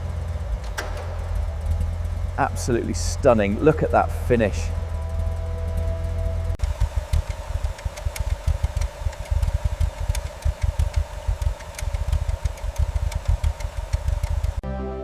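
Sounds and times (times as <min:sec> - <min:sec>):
engine running unevenly: 0:00.0 - 0:14.6
sharp clicks: 0:00.0 - 0:14.6.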